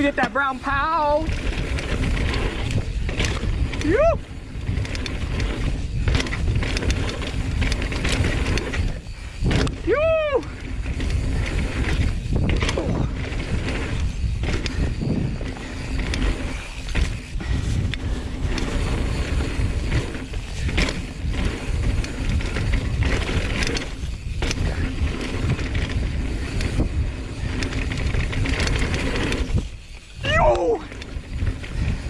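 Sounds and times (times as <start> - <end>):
bike rattling over bumps: 0.0 - 32.0
wind and tyres on dirt: 0.0 - 32.0.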